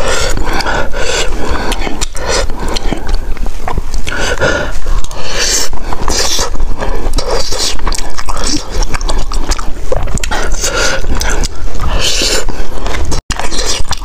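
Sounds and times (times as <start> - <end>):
chewing and lip-smacking: 0.0 - 14.0.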